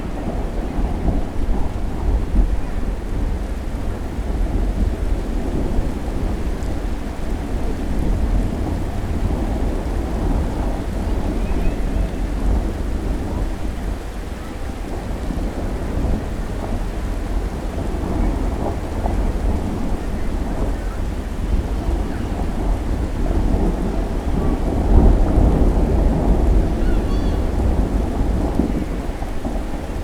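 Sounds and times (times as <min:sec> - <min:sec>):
deep thunder rumble: 0:00.0 - 0:30.0
steady rain falling: 0:00.0 - 0:30.0.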